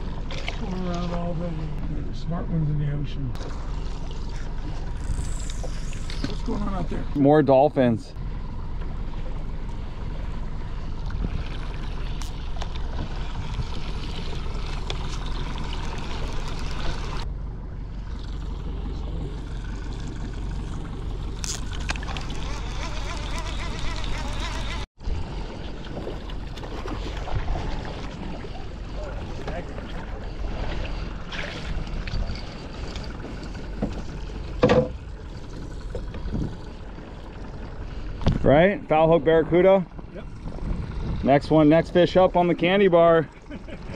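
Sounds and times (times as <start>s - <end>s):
motorboat engine running: 0.0s - 43.9s
water noise: 0.0s - 43.9s
wind: 0.0s - 43.9s.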